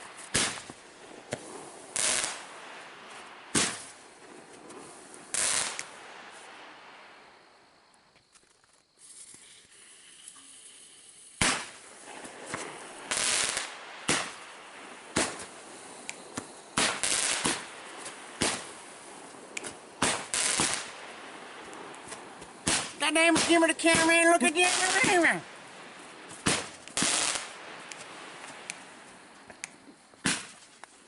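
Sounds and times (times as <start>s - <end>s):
firecrackers banging and crackling: 0.0s - 7.0s, 8.3s - 31.0s.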